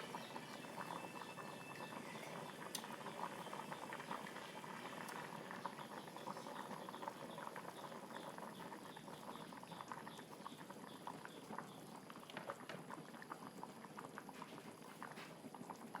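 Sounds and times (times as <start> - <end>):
liquid boiling in a pot: 0.0 - 16.0.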